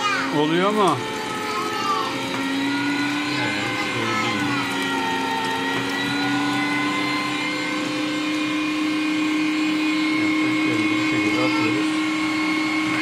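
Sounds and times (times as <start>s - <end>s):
meat grinder motor humming: 0.0s - 13.0s.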